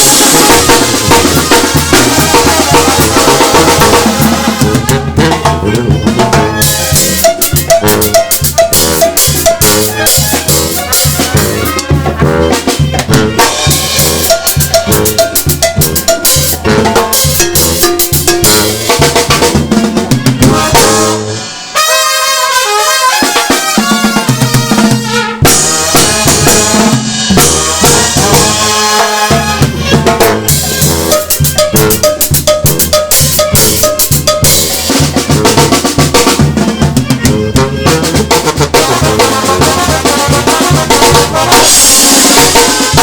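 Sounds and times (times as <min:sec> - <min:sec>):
brass band music: 0:00.0 - 0:43.0.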